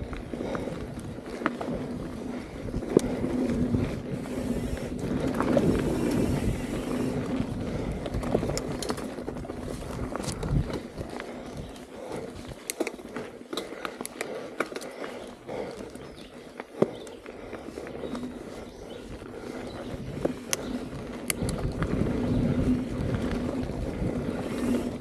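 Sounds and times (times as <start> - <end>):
bike rattling clicks and knocks: 0.0 - 25.0
bike tyres rumbling over dirt: 0.0 - 25.0.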